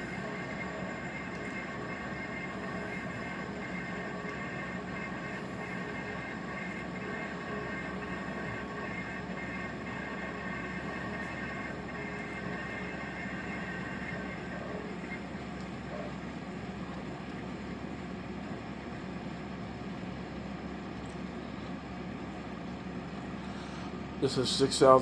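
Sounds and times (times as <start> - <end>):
portable air conditioner whirring: 0.0 - 25.0.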